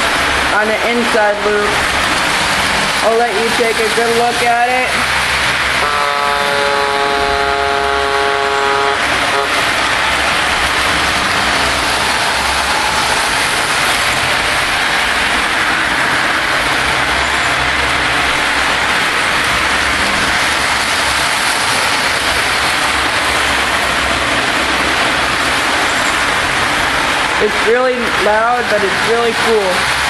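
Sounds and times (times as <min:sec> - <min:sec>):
model trains running on track: 0:00.0 - 0:30.0.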